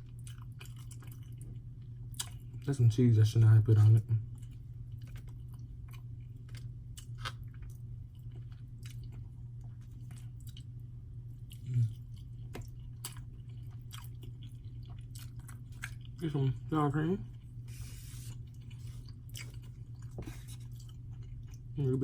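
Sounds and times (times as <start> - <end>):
person chewing close up: 0.0 - 2.7, 3.8 - 16.6, 17.2 - 21.8
low hum: 0.0 - 22.0.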